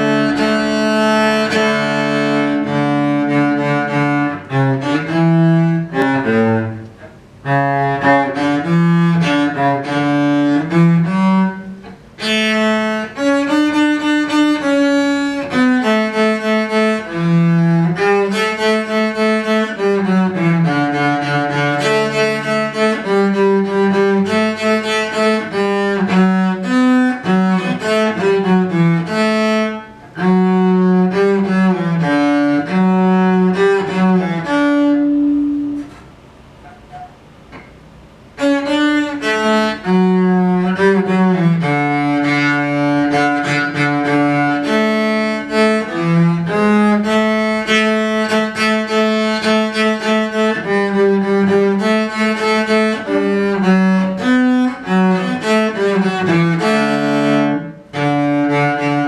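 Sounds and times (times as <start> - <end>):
solo cello melody: 0.0 - 59.0.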